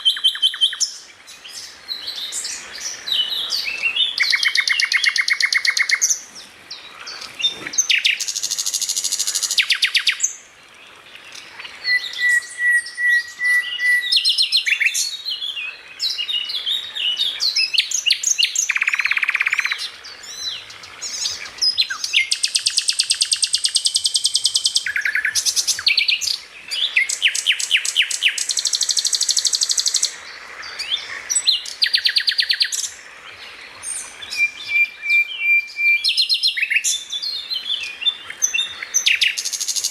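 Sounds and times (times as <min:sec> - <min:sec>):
bird singing trills and whistles: 0:00.0 - 0:10.4, 0:11.3 - 0:30.2, 0:30.8 - 0:33.0, 0:33.8 - 0:39.9.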